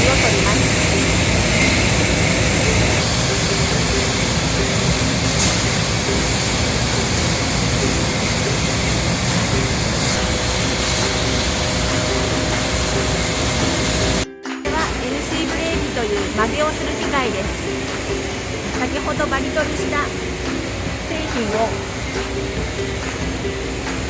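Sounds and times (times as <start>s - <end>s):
deburring machine brushes scrubbing: 0.0s - 24.0s.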